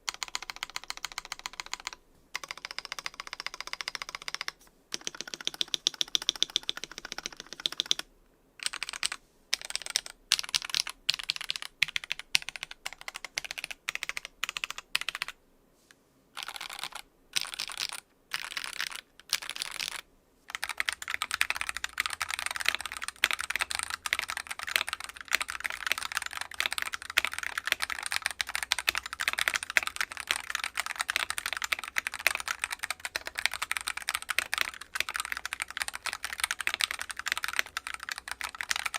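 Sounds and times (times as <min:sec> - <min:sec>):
mechanical keyboard typing: 0:00.1 - 0:15.4, 0:16.4 - 0:38.9.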